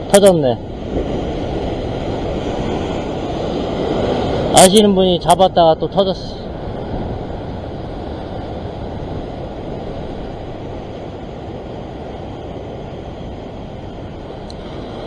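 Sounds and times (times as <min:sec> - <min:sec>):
wind noise on microphone: 0:00.0 - 0:15.0
surf breaking on rocks: 0:00.1 - 0:15.0.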